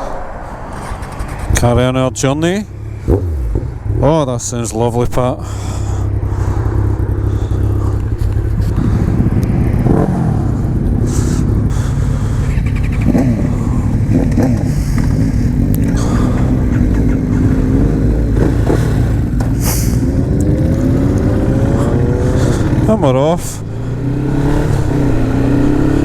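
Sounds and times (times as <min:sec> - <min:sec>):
motorcycle engines idling and revving: 0:00.0 - 0:26.0.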